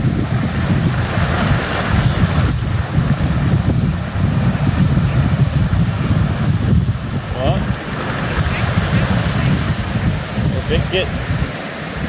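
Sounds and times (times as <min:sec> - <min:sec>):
flood water rushing: 0:00.0 - 0:12.0
wind buffeting microphone: 0:00.0 - 0:12.0.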